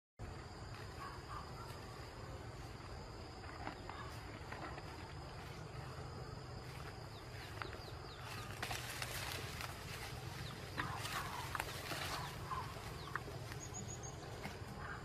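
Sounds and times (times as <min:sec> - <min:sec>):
insect drone: 0:00.2 - 0:15.0
footsteps through tall grass: 0:00.7 - 0:15.0.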